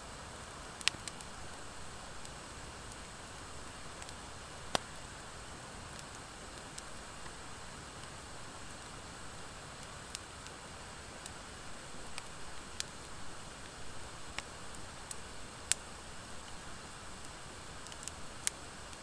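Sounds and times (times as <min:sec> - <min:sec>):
wood fire crackling pops: 0:00.4 - 0:09.0, 0:11.2 - 0:19.0.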